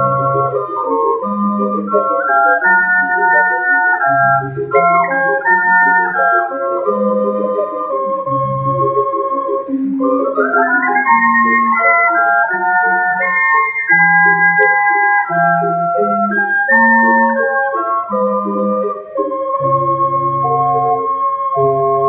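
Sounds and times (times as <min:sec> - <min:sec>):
ocarina ensemble playing: 0:00.0 - 0:22.0.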